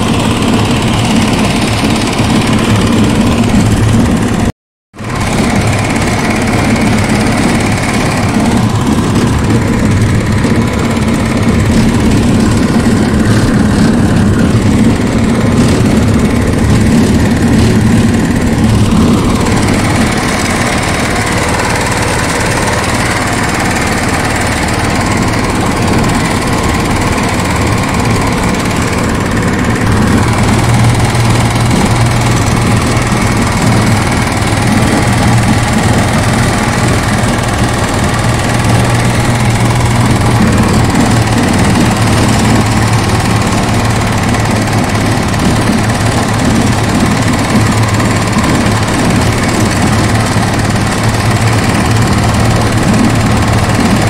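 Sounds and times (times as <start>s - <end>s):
tiller engine humming: 0.0s - 54.0s.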